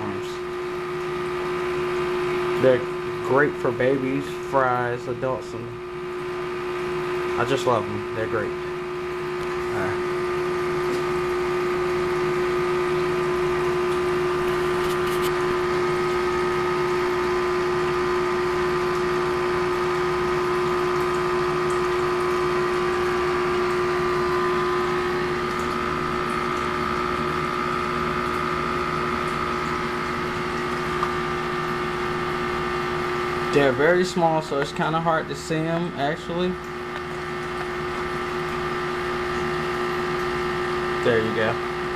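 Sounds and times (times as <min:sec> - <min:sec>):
aquarium pump humming: 0:00.0 - 0:41.9
water running and bubbling: 0:00.0 - 0:41.9.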